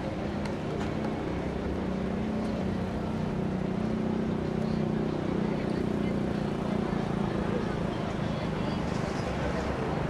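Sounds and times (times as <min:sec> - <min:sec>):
traffic engines droning: 0:00.0 - 0:10.0
voices of passers-by: 0:00.0 - 0:10.0.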